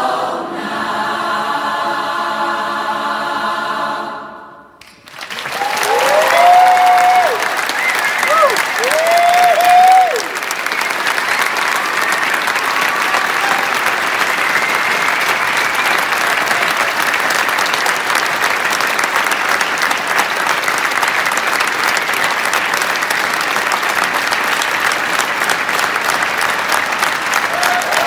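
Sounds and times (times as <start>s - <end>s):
audience applauding: 4.8s - 28.0s.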